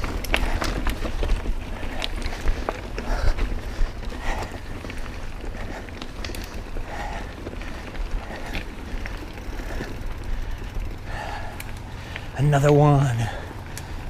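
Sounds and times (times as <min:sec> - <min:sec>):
bike rattling: 0:00.0 - 0:14.0
bike tyres rolling on rock: 0:00.0 - 0:14.0.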